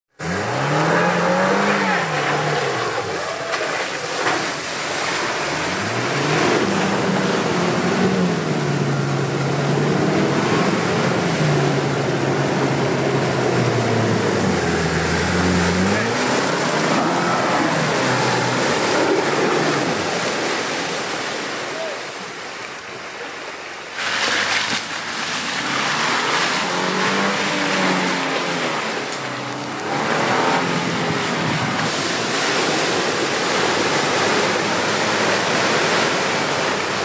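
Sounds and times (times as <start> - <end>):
car engine under load: 0.1 - 21.1, 24.0 - 37.0
water and mud churned by tyres: 0.1 - 37.0.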